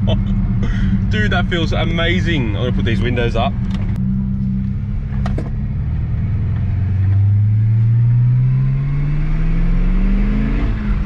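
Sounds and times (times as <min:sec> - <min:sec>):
car engine pulling hard: 0:00.0 - 0:11.0.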